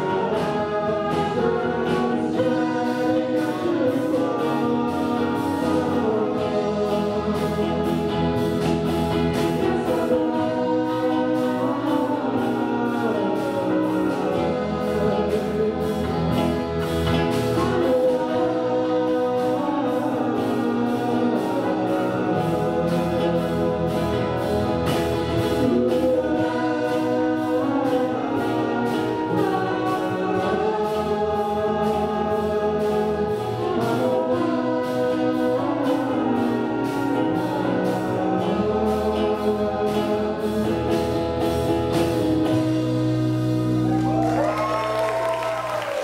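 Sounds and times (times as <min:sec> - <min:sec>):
alto saxophone: 0:00.0 - 0:46.0
drum kit beat: 0:00.0 - 0:46.0
electric guitar: 0:00.0 - 0:46.0
trumpet: 0:00.0 - 0:46.0
woman singing lead: 0:00.0 - 0:46.0.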